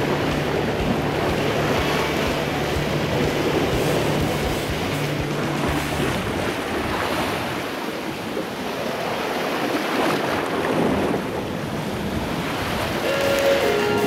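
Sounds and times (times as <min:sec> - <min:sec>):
wind buffeting microphone: 0:00.0 - 0:13.8
choppy sea waves: 0:00.0 - 0:14.0.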